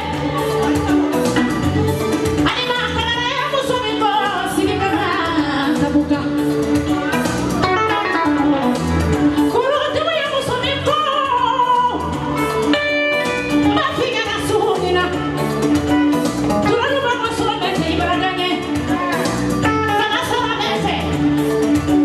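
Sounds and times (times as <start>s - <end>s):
instrumental accompaniment: 0.0s - 22.0s.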